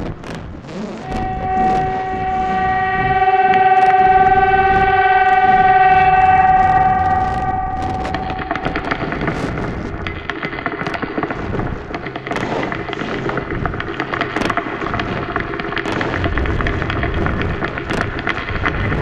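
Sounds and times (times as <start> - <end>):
crackling noise music: 0.0 - 19.0.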